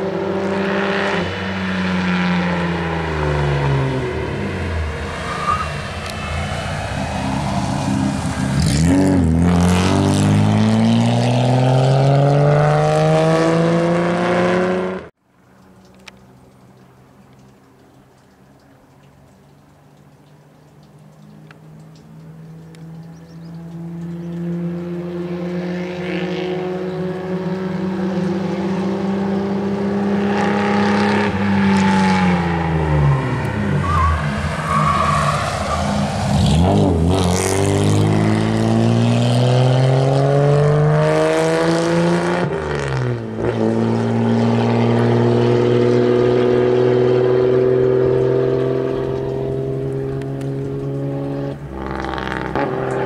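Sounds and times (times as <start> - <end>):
sports car engine accelerating: 0.0 - 15.2, 20.8 - 53.0.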